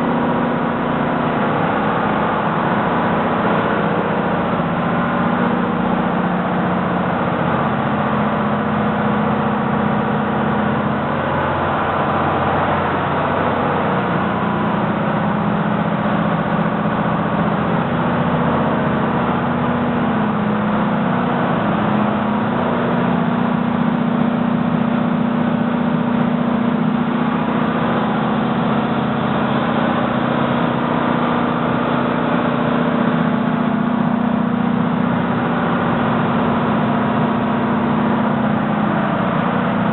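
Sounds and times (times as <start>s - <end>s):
engine room machinery hum: 0.0s - 39.9s.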